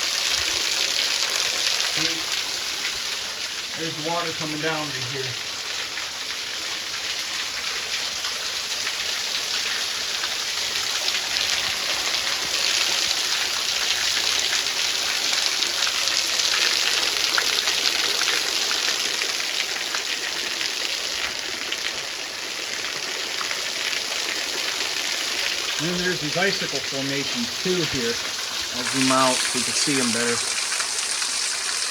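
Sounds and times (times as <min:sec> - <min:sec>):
small waterfall splashing: 0:00.0 - 0:31.9.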